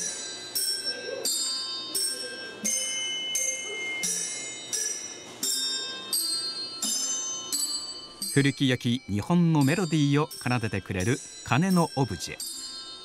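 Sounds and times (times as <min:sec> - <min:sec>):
bells chiming a slow melody: 0:00.0 - 0:13.0.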